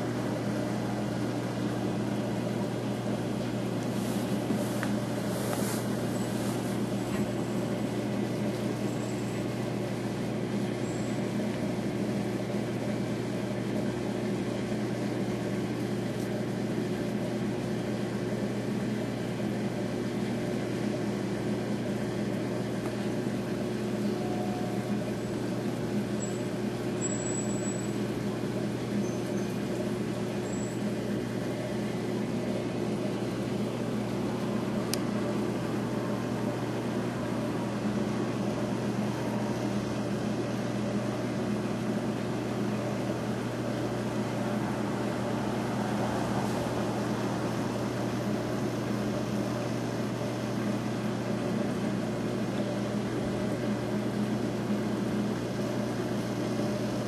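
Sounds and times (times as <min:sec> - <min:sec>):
aquarium pumps humming: 0:00.0 - 0:57.0.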